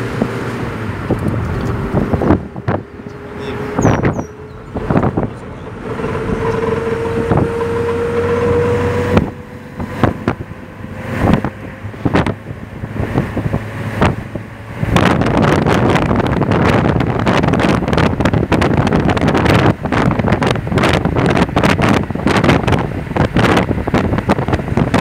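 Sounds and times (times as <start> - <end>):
car engine and road rumble: 0.0 - 25.0
wind buffeting microphone: 0.0 - 25.0.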